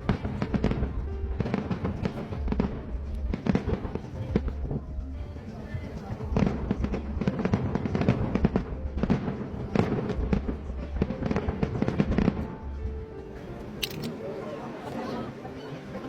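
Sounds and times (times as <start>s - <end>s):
fireworks bangs and crackles: 0.0s - 13.1s.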